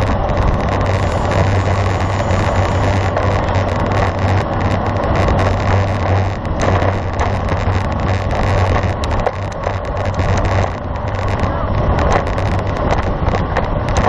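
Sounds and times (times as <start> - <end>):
low road hum: 0.0 - 14.0
wind rushing over microphone: 0.0 - 14.0.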